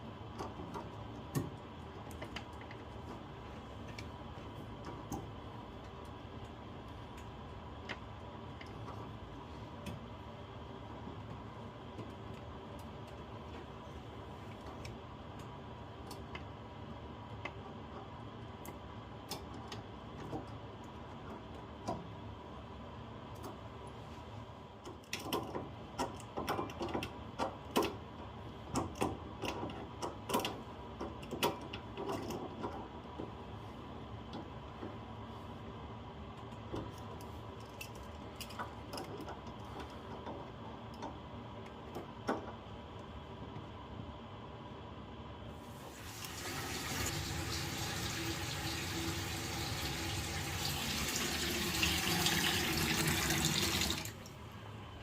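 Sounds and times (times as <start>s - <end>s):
faint hum and hiss: 0.0s - 55.0s.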